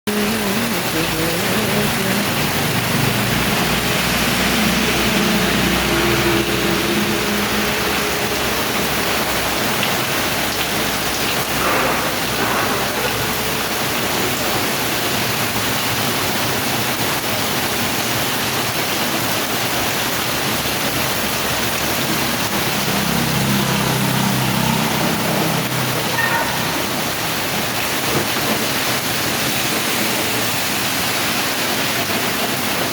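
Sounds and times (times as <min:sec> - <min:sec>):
heavy rain falling: 0:00.1 - 0:32.9.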